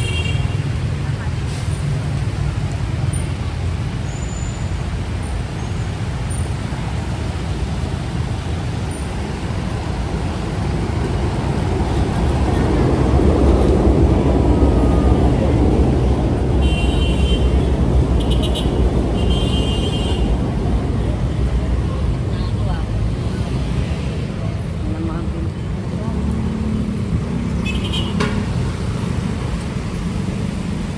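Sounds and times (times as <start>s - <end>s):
road traffic noise: 0.0s - 30.9s.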